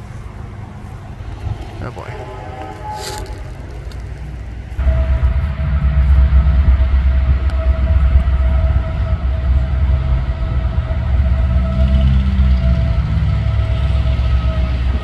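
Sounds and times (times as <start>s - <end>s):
diesel locomotive engine rumble: 0.0s - 15.0s
steady whine: 0.0s - 15.0s.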